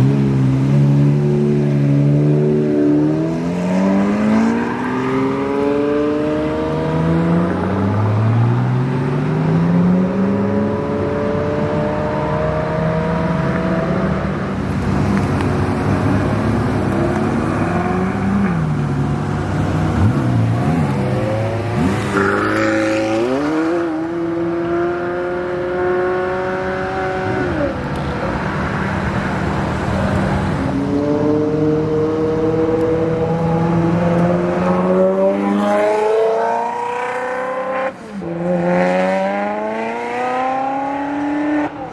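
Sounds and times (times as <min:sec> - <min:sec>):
sports car engines accelerating: 0:00.0 - 0:41.9.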